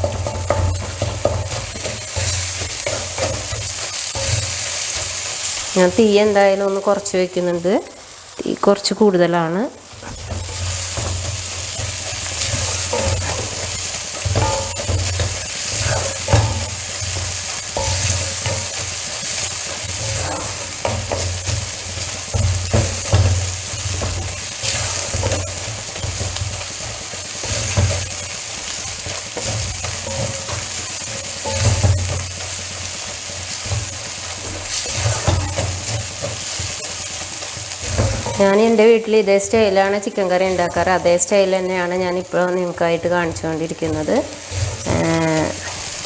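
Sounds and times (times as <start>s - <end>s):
spatula scraping and tapping: 0.0s - 7.2s, 9.8s - 46.0s
masala sizzling in a pan: 0.0s - 46.0s.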